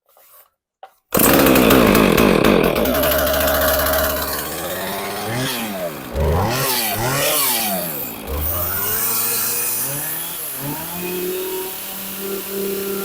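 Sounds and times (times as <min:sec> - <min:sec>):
chainsaw engine revving: 0:01.1 - 0:13.0.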